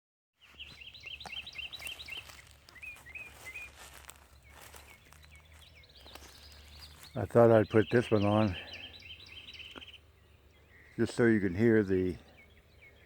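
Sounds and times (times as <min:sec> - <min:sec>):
songbirds chirping: 0:00.4 - 0:13.0.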